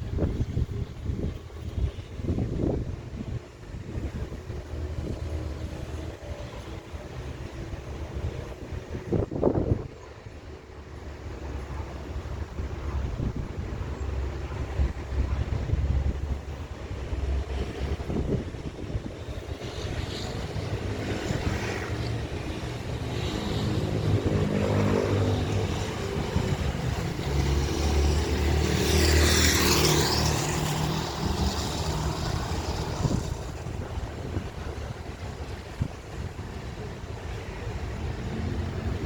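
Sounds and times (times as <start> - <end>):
jet airliner flying overhead: 0.0 - 39.0
wind buffeting microphone: 0.0 - 39.0.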